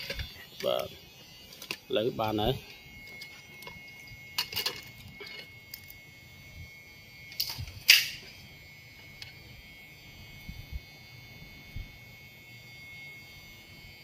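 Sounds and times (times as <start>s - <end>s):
faint steady high tone: 0.0s - 14.0s.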